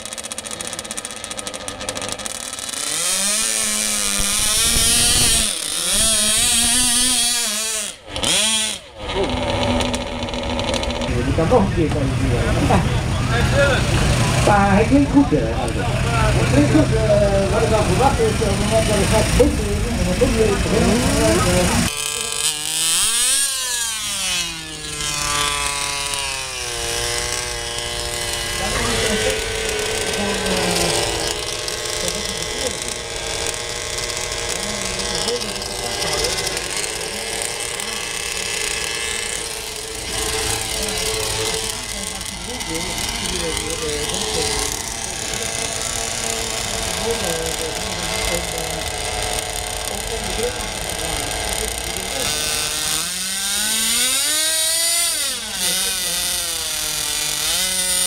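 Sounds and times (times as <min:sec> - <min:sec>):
small model engine revving: 0:00.0 - 0:58.0.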